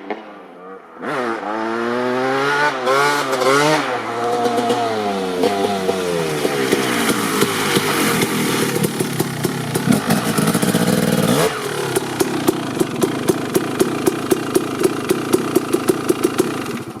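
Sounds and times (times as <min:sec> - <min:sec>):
dirt bike engine revving and idling: 0:00.0 - 0:17.0.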